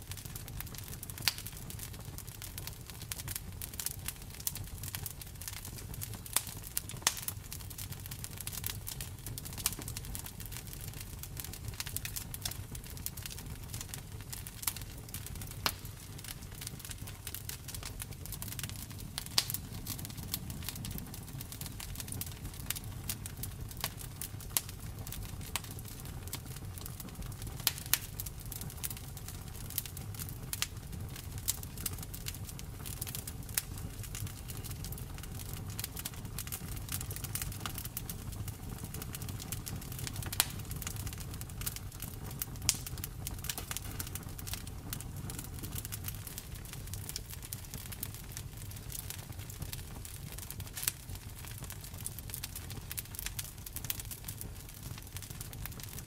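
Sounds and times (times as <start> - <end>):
low rumble of burning: 0.0 - 56.0
wood fire crackling and popping: 0.0 - 56.0.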